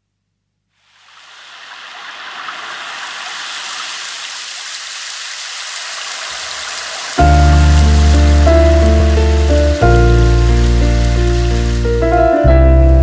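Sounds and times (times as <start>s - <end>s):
water hiss: 0.8s - 12.1s.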